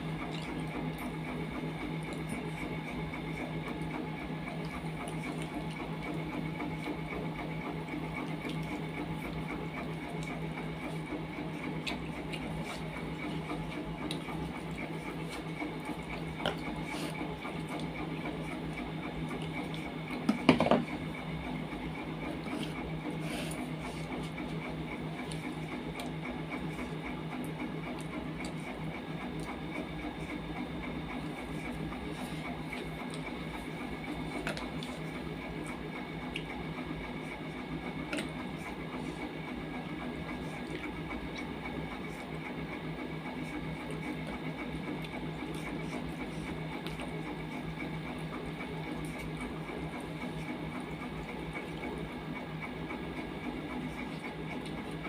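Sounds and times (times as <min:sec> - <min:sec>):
mechanical hum: 0:00.0 - 0:55.0
person chewing food: 0:00.3 - 0:01.0, 0:08.2 - 0:42.4, 0:43.4 - 0:52.1, 0:53.3 - 0:55.0.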